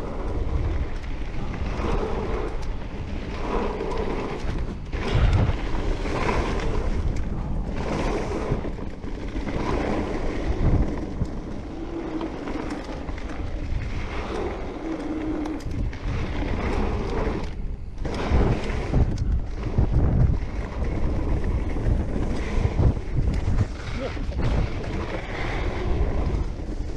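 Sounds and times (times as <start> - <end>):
bike jolting over bumps: 0.0 - 26.9
tyres rumbling over dirt: 0.0 - 26.9
wind buffeting microphone: 0.0 - 26.9.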